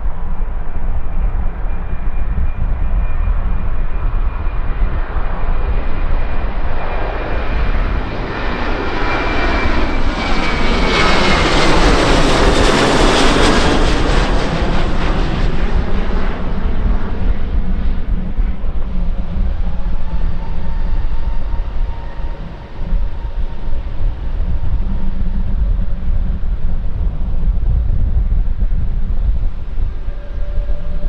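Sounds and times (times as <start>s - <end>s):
aircraft engines passing: 0.0s - 31.0s
high whine falling in pitch: 0.0s - 31.0s.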